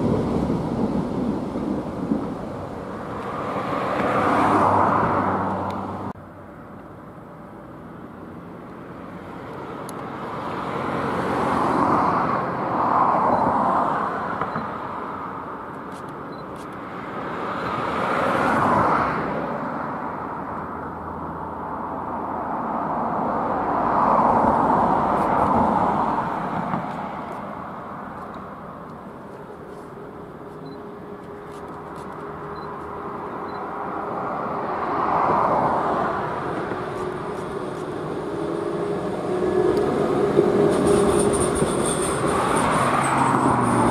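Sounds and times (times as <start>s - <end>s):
vehicles passing: 0.0s - 43.9s.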